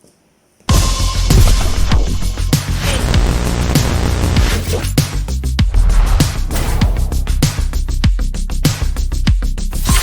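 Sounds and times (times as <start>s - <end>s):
loud electronic music: 0.7s - 9.7s.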